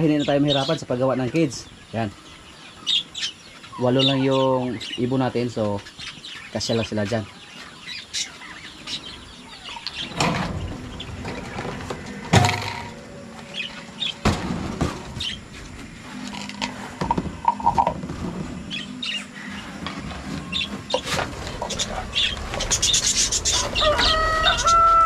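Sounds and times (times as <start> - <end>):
small birds chirping: 0.0 - 14.2, 15.1 - 25.0.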